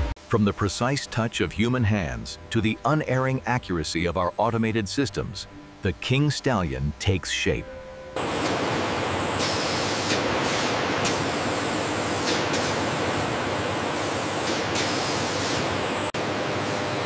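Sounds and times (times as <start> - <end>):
factory machinery hissing hum: 0.0 - 17.0.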